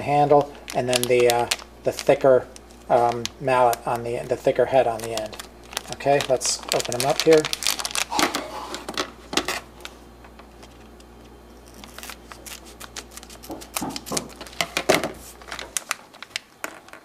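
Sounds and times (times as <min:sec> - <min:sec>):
foil bag crinkling: 0:00.0 - 0:17.0.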